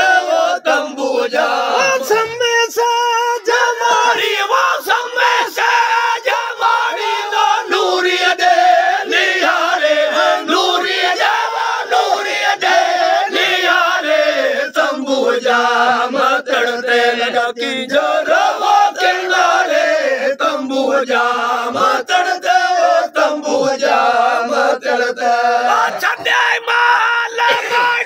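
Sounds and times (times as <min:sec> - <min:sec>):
men singing together: 0:00.0 - 0:02.4, 0:03.4 - 0:28.0.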